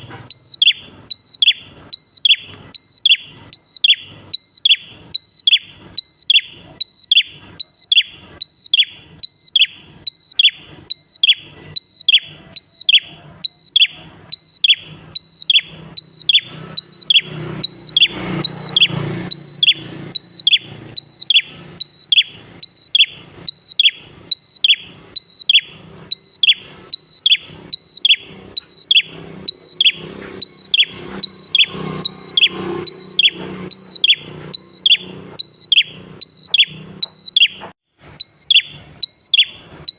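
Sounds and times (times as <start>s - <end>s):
bird calling sharp high notes: 0.0s - 39.9s.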